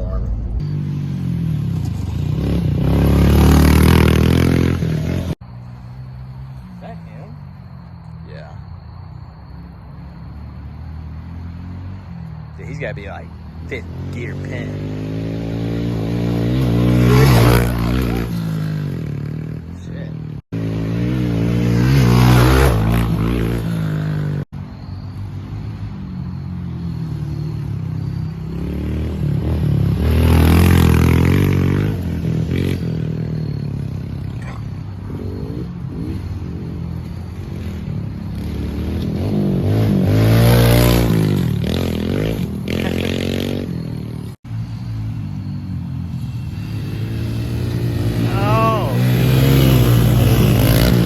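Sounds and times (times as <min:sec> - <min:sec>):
dirt bikes revving past: 0:00.0 - 0:51.0.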